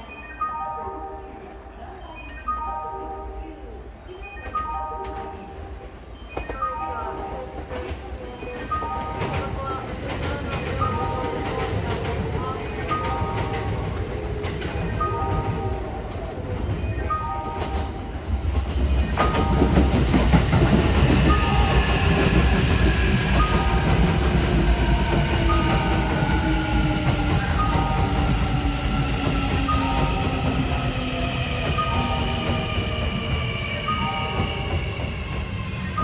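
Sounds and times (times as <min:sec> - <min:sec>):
train wheels rumbling on rail: 0:06.0 - 0:36.0.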